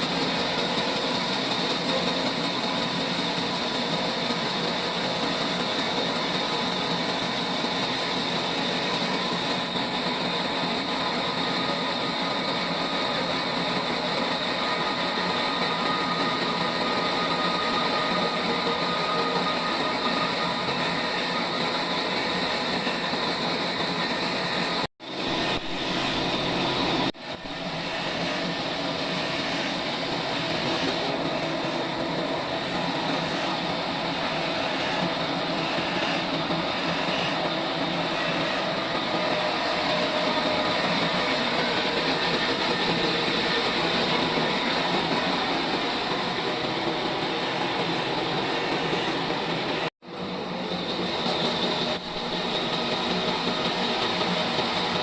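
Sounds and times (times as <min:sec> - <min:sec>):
sawmill saw cutting log: 0:00.0 - 0:49.9.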